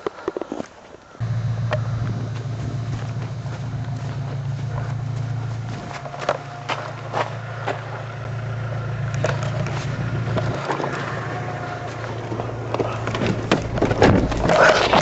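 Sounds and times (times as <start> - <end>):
car engine idling: 1.2 - 15.0.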